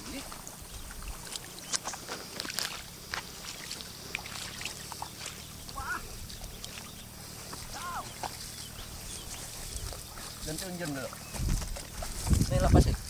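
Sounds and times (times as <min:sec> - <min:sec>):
feet splashing in water: 0:00.0 - 0:13.0.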